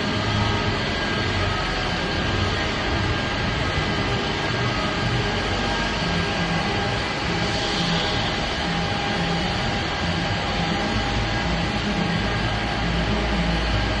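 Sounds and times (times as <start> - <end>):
arc welding hissing buzz: 0.0 - 14.0.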